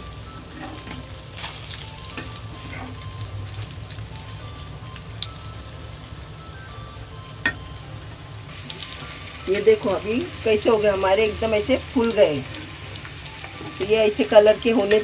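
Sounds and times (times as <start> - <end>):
cutlets sizzling in oil: 0.0 - 15.0.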